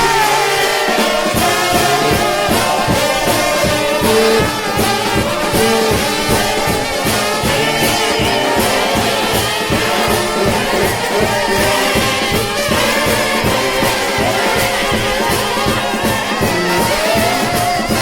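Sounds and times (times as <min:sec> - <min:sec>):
drums beating: 0:00.0 - 0:18.0
trombones playing in harmony: 0:00.0 - 0:18.0.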